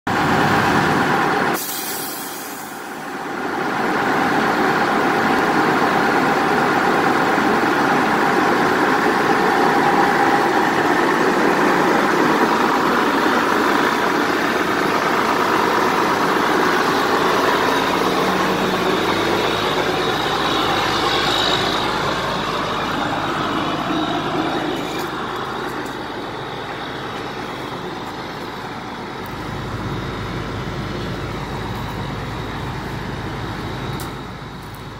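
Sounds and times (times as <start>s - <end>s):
truck engine running: 0.1s - 1.7s, 2.8s - 34.9s.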